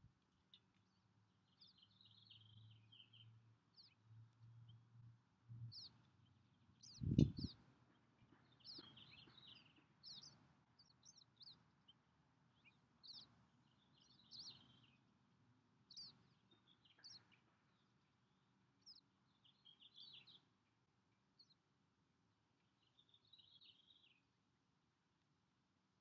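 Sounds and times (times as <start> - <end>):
faint bird chirps: 0.3 - 15.0, 15.8 - 21.7, 22.6 - 24.3.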